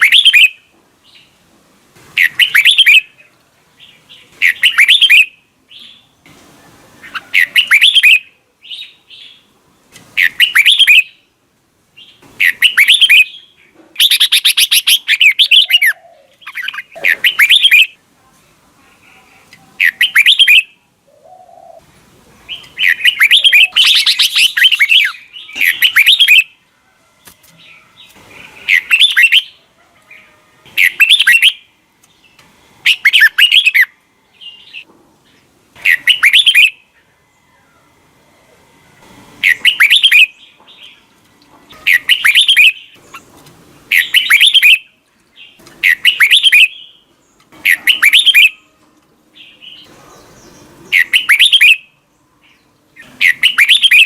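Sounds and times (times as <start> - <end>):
bird singing warbled phrases: 0.0 - 1.4, 2.2 - 6.2, 7.0 - 11.4, 12.0 - 18.0, 18.9 - 26.6, 27.6 - 37.2, 39.4 - 41.1, 41.7 - 54.0.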